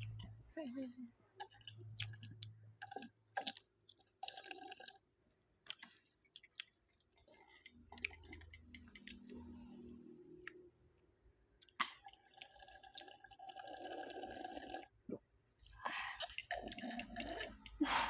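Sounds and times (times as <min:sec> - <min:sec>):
person chewing food: 0:00.0 - 0:00.5, 0:01.3 - 0:10.8, 0:11.5 - 0:18.0.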